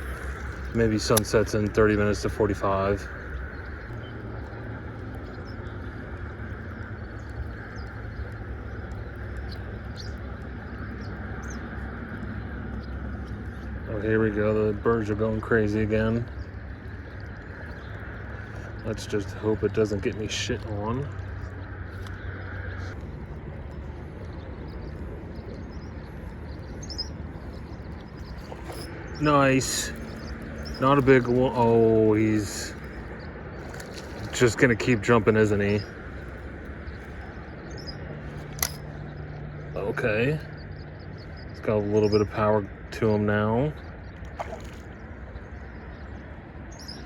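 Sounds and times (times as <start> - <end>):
birds chirping: 0.0 - 47.0
low outdoor rumble: 0.0 - 47.0.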